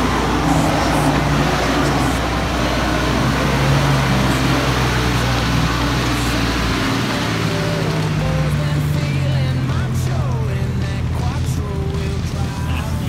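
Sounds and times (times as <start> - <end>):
off-road vehicle engine droning: 0.0 - 13.0.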